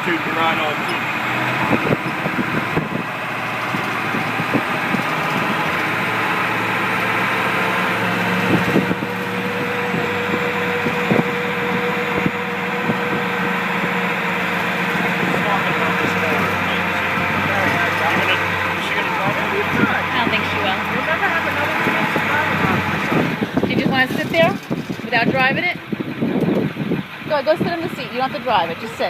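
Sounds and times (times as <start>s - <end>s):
truck engine running: 0.0s - 29.0s
knocks and rattles: 0.8s - 27.0s.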